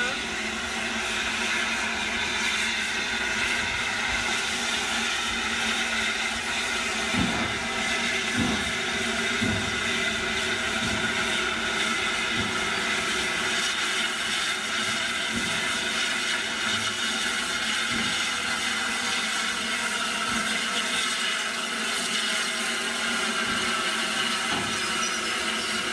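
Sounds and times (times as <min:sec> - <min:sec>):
steam locomotive hissing: 0:00.0 - 0:25.9.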